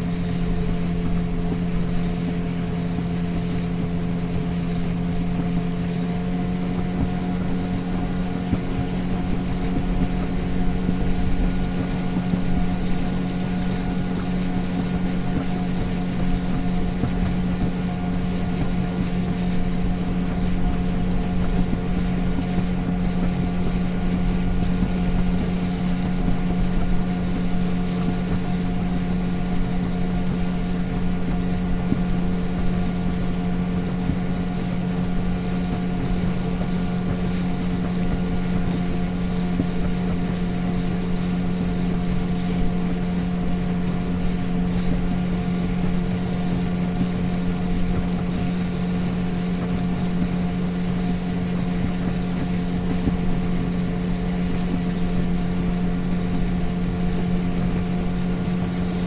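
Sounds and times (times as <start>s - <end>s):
hull rushing through water: 0.0s - 59.0s
motorboat engine hum: 0.0s - 59.0s
wind on microphone: 0.0s - 59.0s.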